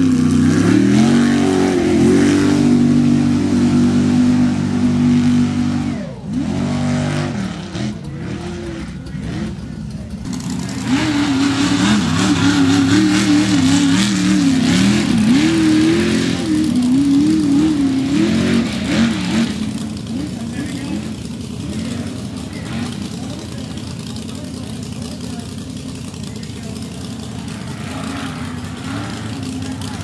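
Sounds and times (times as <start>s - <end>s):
louder truck engine revving: 0.0s - 30.0s
truck engine revving: 0.0s - 30.0s.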